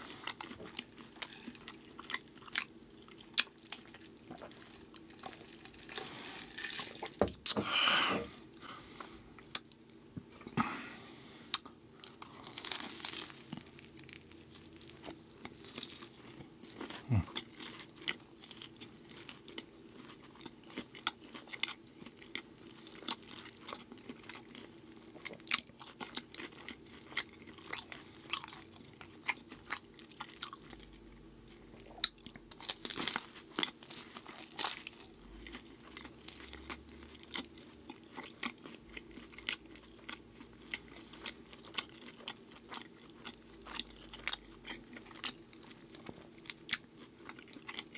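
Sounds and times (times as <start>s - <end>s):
person chewing crunchy food: 0.0s - 7.6s, 8.9s - 47.9s
faint steady hum: 0.0s - 47.9s.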